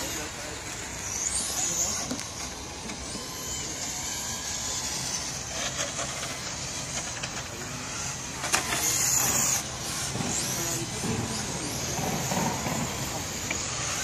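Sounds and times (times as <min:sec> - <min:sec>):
rc cars high-pitched whir: 0:00.0 - 0:14.0.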